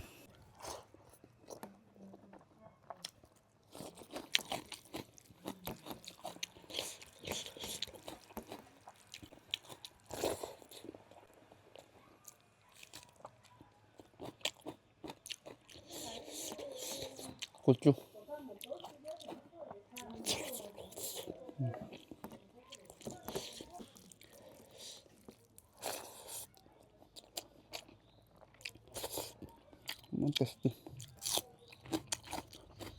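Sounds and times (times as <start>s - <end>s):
chewing and smacking: 0.3s - 32.9s.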